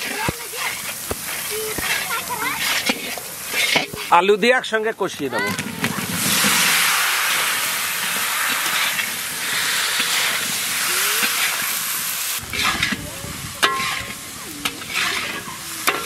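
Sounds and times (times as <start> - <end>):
metal spatula scraping a pan: 0.0 - 4.3, 6.2 - 11.7, 12.3 - 16.0
potatoes sizzling in hot oil: 0.0 - 16.0.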